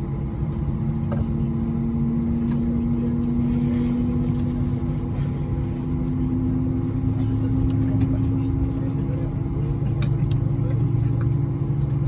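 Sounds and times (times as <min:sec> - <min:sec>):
aircraft engine hum: 0:00.0 - 0:12.0.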